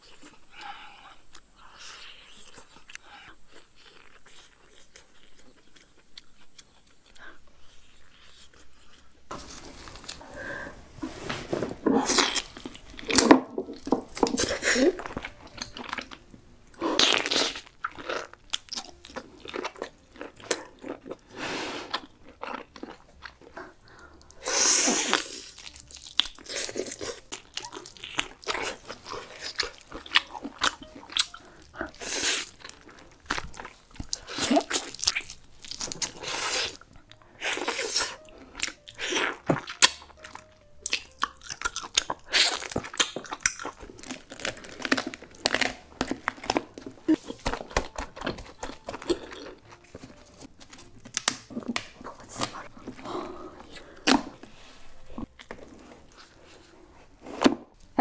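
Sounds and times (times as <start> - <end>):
biting and chewing: 0.0 - 10.3, 11.8 - 56.8.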